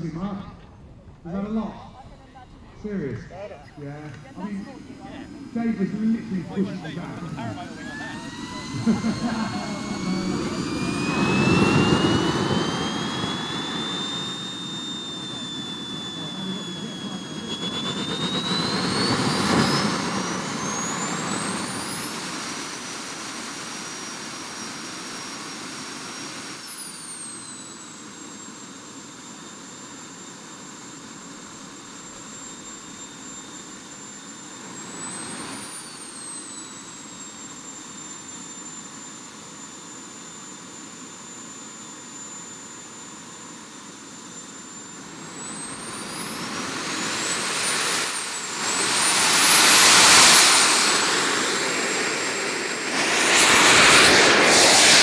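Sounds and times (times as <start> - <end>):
small jet engine whining: 0.0 - 55.0.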